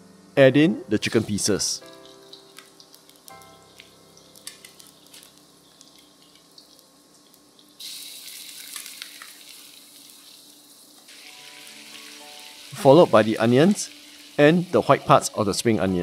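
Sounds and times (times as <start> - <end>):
chicken sizzling in hot oil: 1.0 - 15.4.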